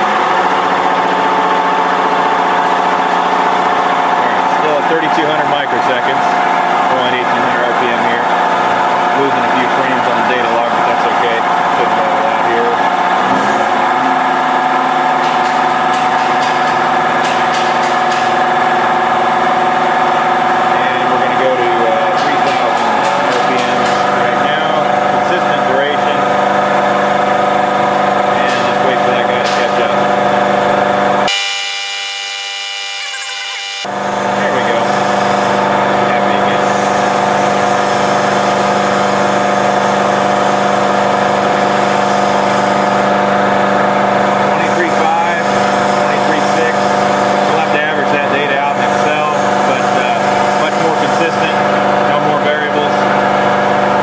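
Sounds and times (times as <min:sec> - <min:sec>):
diesel engine running: 0:00.0 - 0:54.0
steady machine hum: 0:00.0 - 0:54.0.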